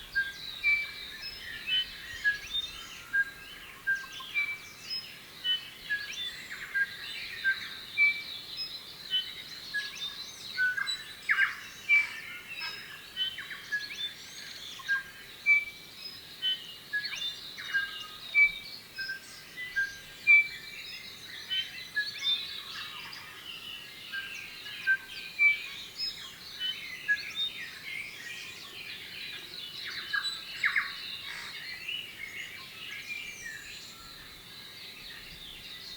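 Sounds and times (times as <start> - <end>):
chorus of bird chirps: 0.0 - 35.9.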